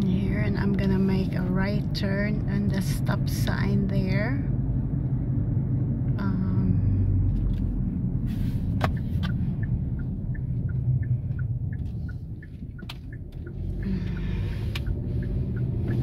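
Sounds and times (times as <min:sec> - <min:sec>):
turn signal ticking: 0:00.0 - 0:06.3, 0:06.9 - 0:16.0
engine and road rumble: 0:00.0 - 0:16.0.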